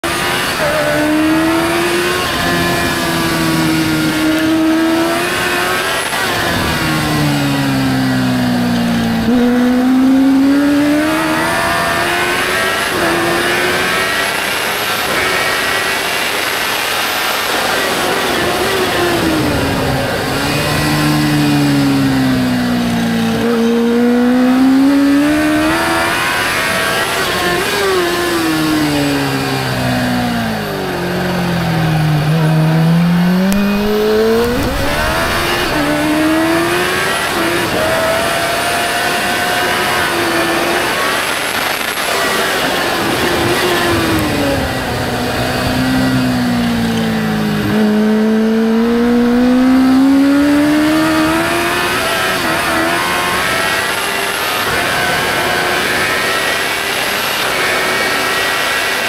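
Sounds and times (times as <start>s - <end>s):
motorcycle engine racing: 0.0s - 59.0s.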